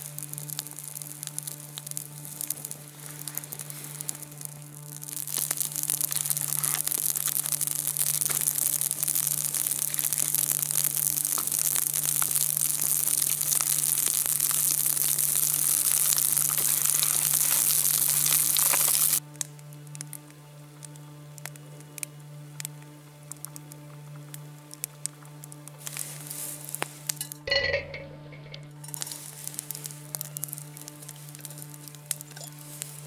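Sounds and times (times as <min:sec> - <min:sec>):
campfire crackling and hissing: 0:00.0 - 0:33.0.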